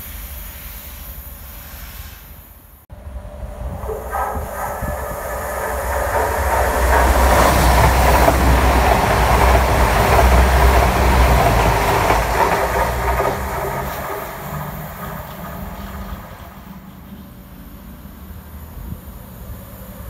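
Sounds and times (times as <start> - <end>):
train engine hum: 2.9 - 20.0
wheel-on-rail noise: 2.9 - 20.0.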